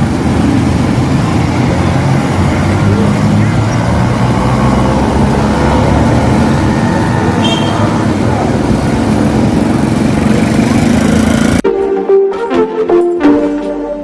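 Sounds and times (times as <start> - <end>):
traffic on wet roads: 0.0 - 11.6.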